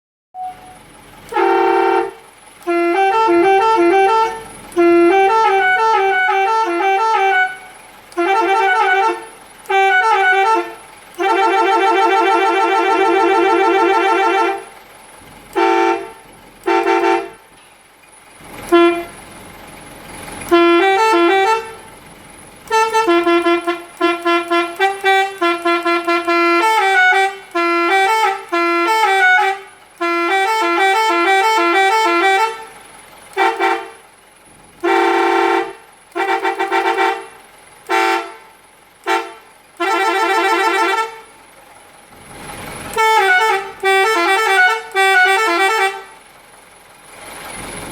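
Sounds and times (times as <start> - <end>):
multi-note bus horn melody: 0.4 - 17.6, 18.4 - 41.5, 42.2 - 46.4.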